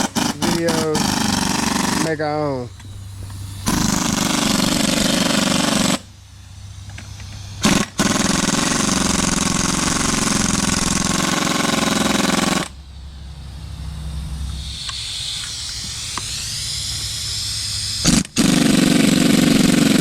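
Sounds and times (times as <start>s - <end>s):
air impact wrench hammering: 0.0s - 12.8s, 14.5s - 20.0s.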